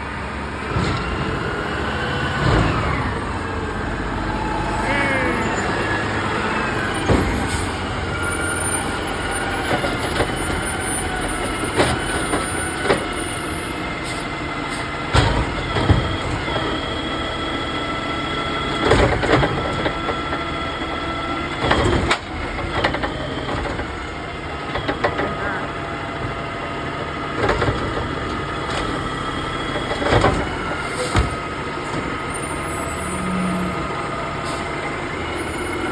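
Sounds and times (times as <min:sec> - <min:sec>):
garbage truck engine running: 0:00.0 - 0:35.9.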